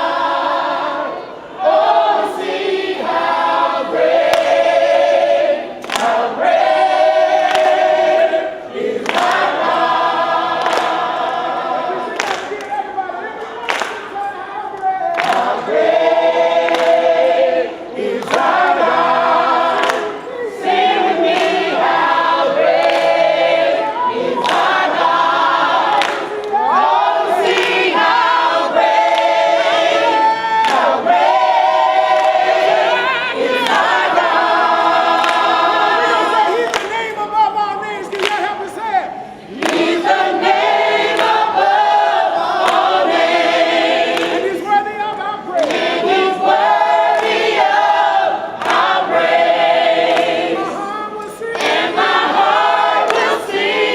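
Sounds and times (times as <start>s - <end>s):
congregation singing a hymn: 0.0s - 53.9s.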